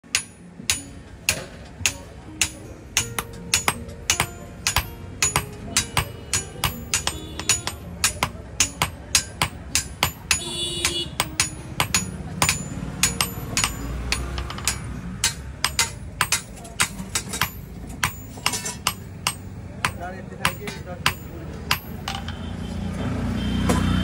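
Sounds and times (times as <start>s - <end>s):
hammer striking steel on anvil: 0.0s - 22.5s.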